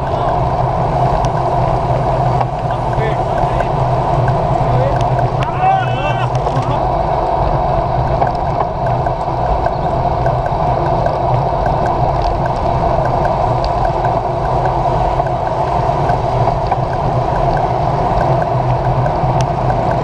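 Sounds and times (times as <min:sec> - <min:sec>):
faint regular ticking: 0:00.0 - 0:06.9, 0:08.0 - 0:20.0
bike tyres on wet asphalt: 0:00.0 - 0:20.0
wind rushing over camera: 0:00.0 - 0:20.0.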